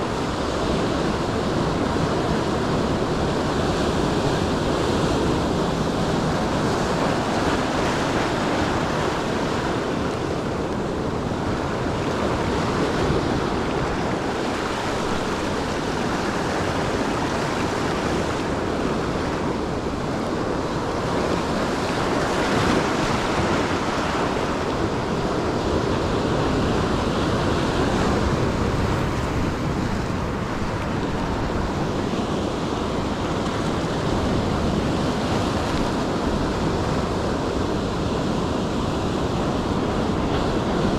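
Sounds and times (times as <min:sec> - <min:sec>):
ocean surf washing in: 0:00.0 - 0:40.9
wind on microphone: 0:00.0 - 0:40.9.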